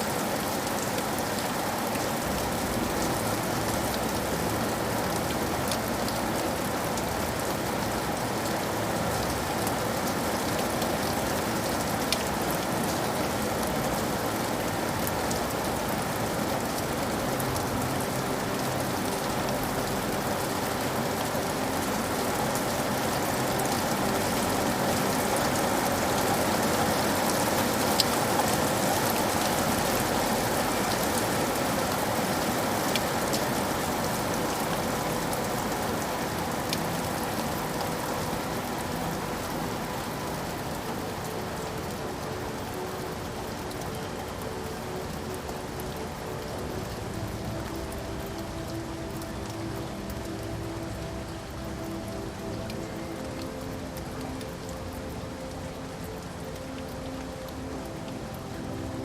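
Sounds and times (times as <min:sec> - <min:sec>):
steady rain falling: 0:00.0 - 0:59.0
sharp raindrop ticks: 0:00.6 - 0:59.0.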